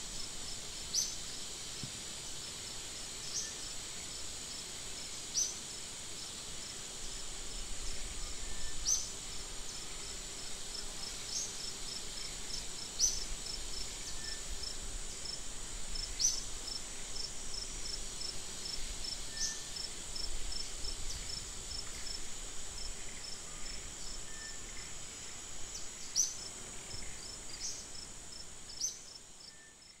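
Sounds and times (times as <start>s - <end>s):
high-pitched insect chorus: 0.1s - 1.6s, 2.2s - 30.0s.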